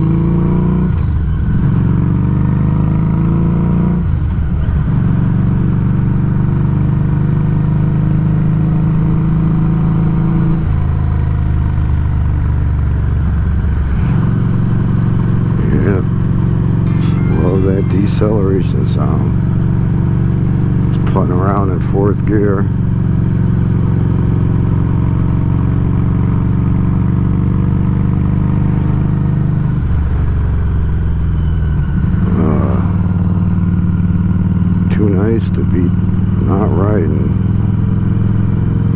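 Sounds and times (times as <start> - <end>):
motorcycle exhaust running: 0.0 - 38.9.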